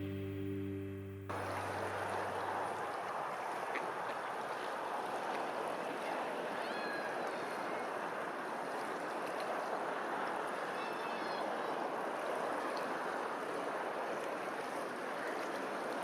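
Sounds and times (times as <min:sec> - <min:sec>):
running water rushing: 0:01.3 - 0:16.0.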